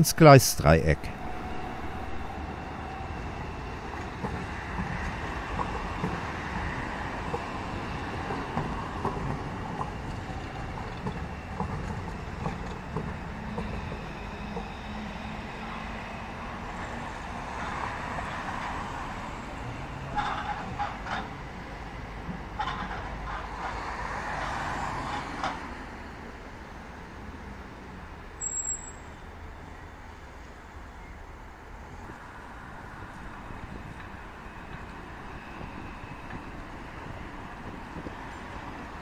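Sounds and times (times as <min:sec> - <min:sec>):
tram rolling past: 0:00.0 - 0:39.0.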